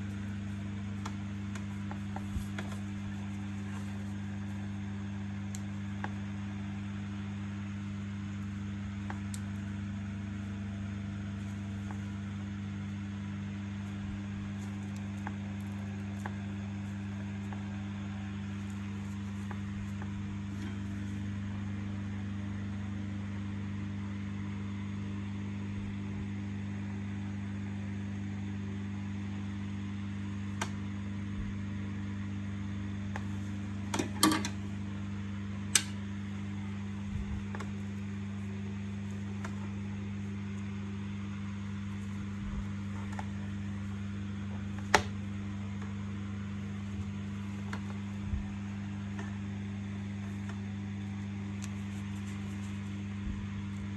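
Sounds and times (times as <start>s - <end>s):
low electrical hum: 0.0s - 53.9s.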